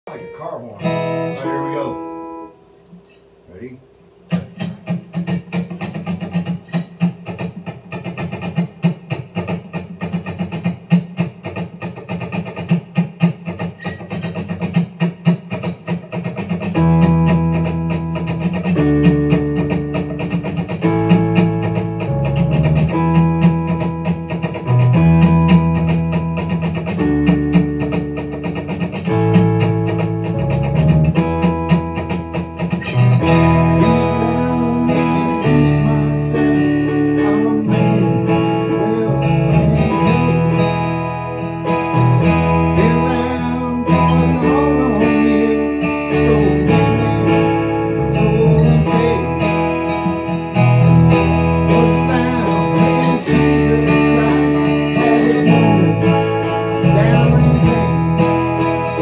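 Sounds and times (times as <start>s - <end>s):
electronic keyboard chords: 0.0s - 11.7s, 14.1s - 59.0s
acoustic guitar strumming: 0.0s - 59.0s.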